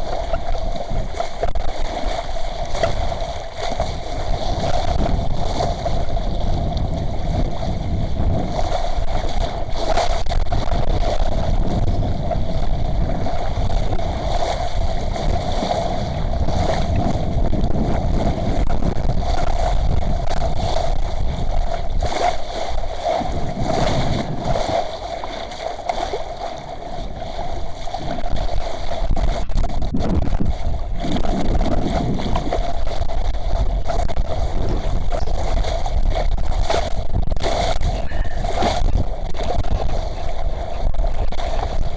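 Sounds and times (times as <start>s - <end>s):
steady mid-pitched hum: 0.0s - 41.9s
water rushing along hull: 0.0s - 41.9s
wind buffeting microphone: 0.0s - 41.9s.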